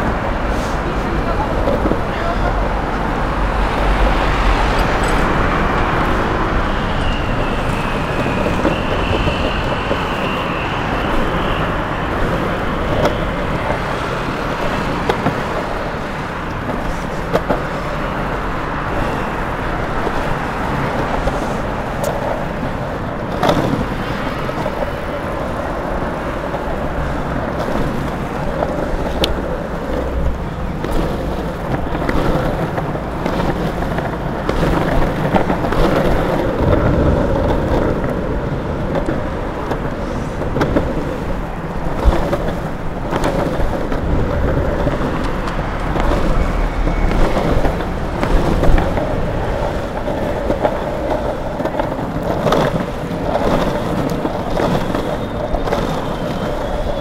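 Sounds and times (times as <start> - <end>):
longboard wheels rolling on asphalt: 0.0 - 57.0
passing road traffic: 0.0 - 57.0.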